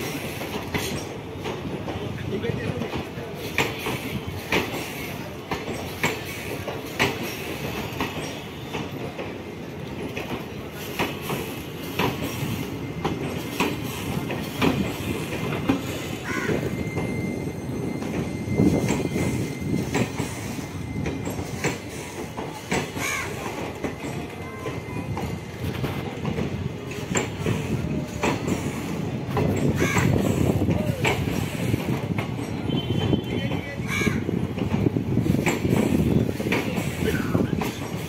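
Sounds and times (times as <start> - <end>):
train wheels rumbling on rails: 0.0 - 38.0
wheels clicking over rail joints: 0.0 - 38.0.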